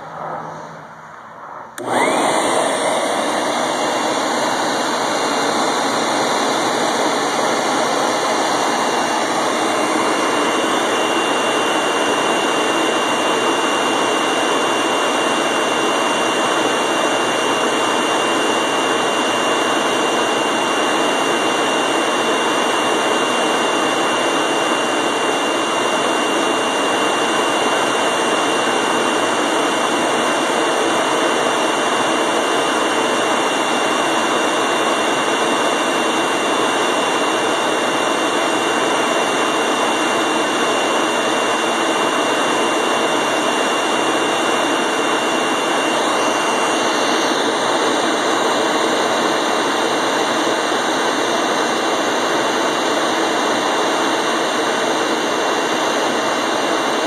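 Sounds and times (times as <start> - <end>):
electric air blower rushing: 0.0 - 57.0.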